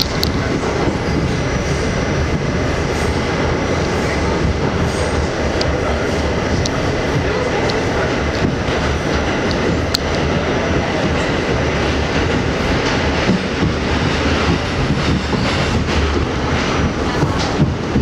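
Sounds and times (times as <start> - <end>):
subway wheels rumbling on rails: 0.0 - 18.0.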